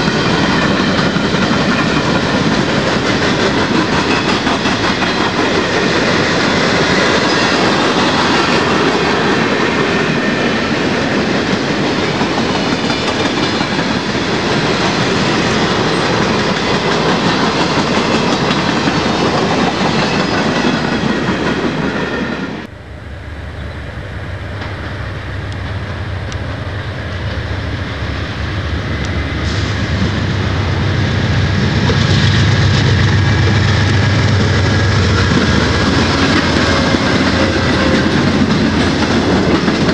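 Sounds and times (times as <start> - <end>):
train wheels clickety-clack: 0.0 - 22.6, 28.7 - 39.9
diesel train rumble: 0.0 - 39.9.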